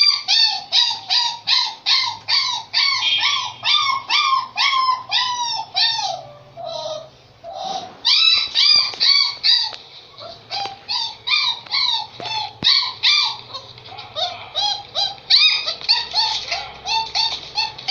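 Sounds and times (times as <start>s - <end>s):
dog whining: 0.0s - 17.9s.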